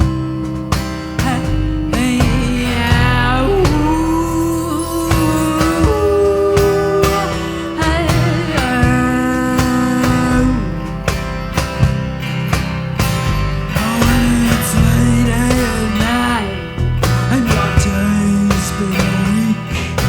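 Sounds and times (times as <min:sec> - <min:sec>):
bass: 0:00.0 - 0:20.0
drums: 0:00.0 - 0:20.0
guitar bending notes: 0:00.0 - 0:20.0.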